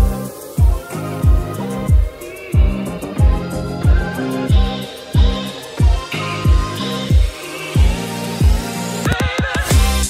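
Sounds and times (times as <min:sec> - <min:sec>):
held keyboard chords: 0:00.0 - 0:10.0.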